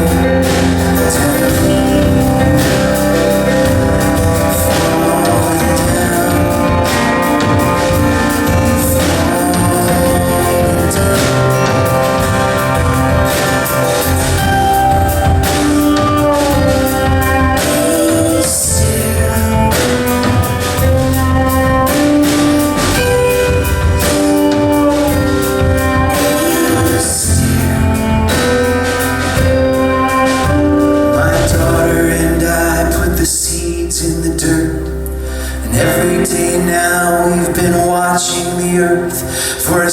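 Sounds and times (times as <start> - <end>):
drum and cymbal hits: 0.0 - 33.2
live band playing: 0.0 - 39.9.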